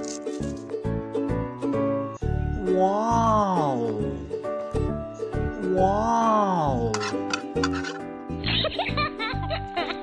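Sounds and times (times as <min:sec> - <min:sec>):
playful background music: 0:00.0 - 0:10.0.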